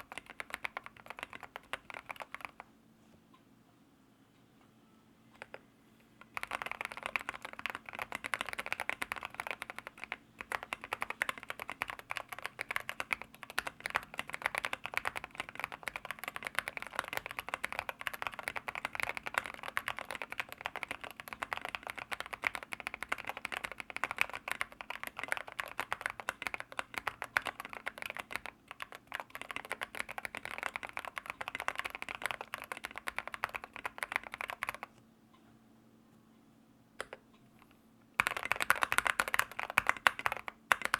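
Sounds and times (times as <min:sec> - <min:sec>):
fast typing on mechanical keyboard: 0:00.0 - 0:02.7, 0:06.2 - 0:34.9, 0:38.2 - 0:40.9.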